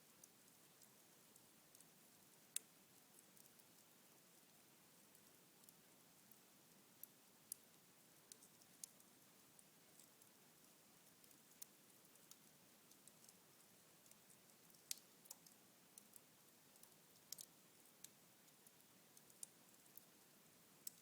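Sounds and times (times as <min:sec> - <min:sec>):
fire crackling in fireplace: 0:00.1 - 0:06.4, 0:07.0 - 0:10.4, 0:11.0 - 0:21.0.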